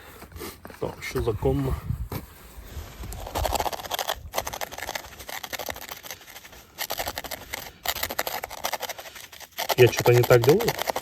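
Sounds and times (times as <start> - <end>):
gritty scratching and scraping: 0.1 - 11.0.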